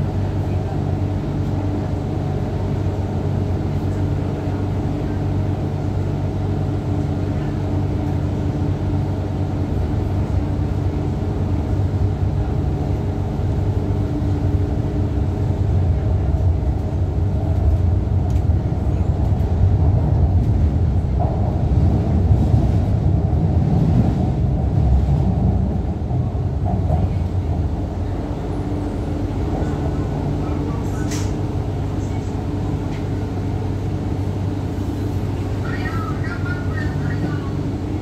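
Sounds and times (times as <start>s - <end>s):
train motor hum: 0.0s - 38.0s
train wheels rumbling on rail: 0.0s - 38.0s.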